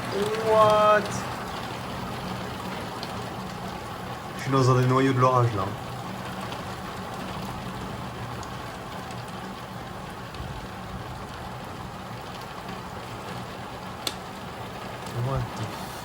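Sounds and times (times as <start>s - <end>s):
heavy rain on roof and windows: 0.0s - 16.0s.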